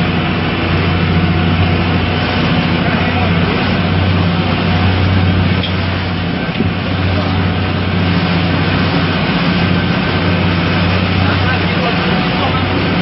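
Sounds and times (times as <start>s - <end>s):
motorboat engine droning: 0.0s - 13.0s
rushing water: 0.0s - 13.0s
rushing wind: 0.0s - 13.0s.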